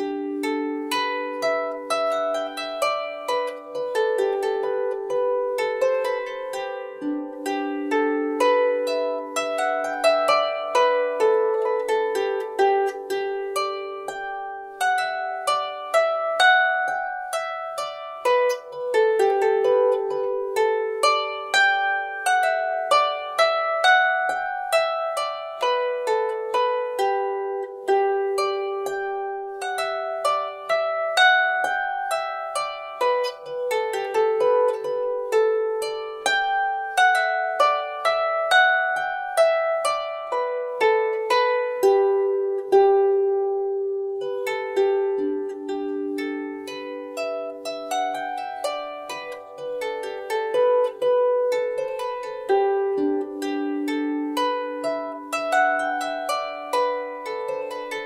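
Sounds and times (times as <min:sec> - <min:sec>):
plucked string melody: 0:00.0 - 0:58.0.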